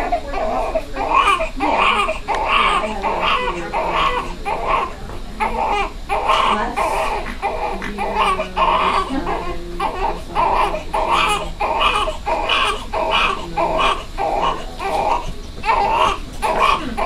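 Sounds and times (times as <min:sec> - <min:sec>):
newborn baby crying: 0:00.0 - 0:17.0.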